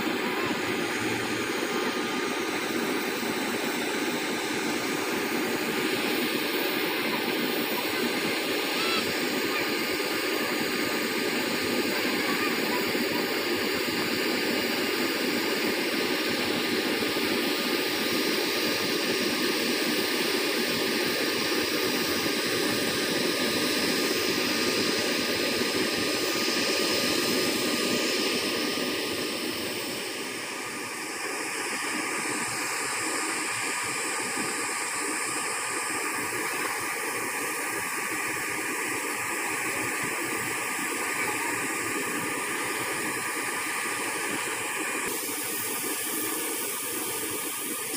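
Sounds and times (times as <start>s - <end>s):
jet turbine rush and whine: 0.0s - 47.9s.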